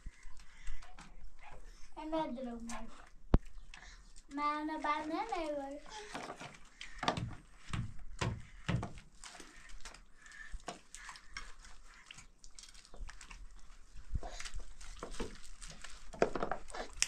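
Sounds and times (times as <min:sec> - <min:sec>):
water splashing in washbasin: 0:02.0 - 0:17.0.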